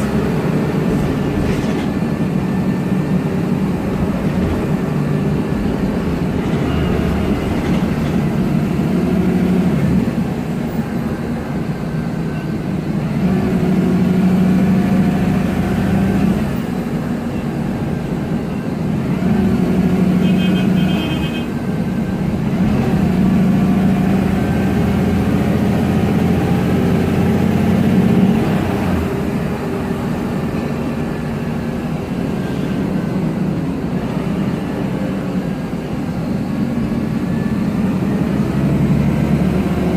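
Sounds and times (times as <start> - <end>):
bus engine rising and falling: 0.0 - 39.9.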